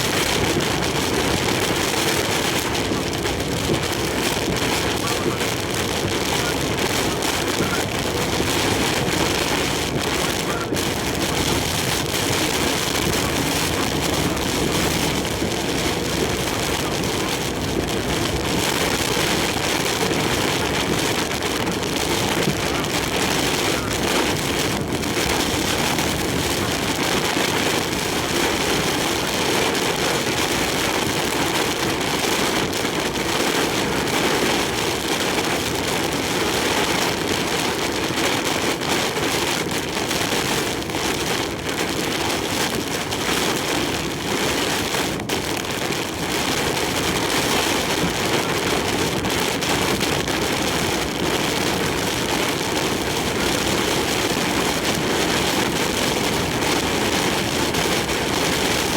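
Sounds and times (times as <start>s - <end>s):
heavy rain and wind on truck: 0.0s - 58.9s.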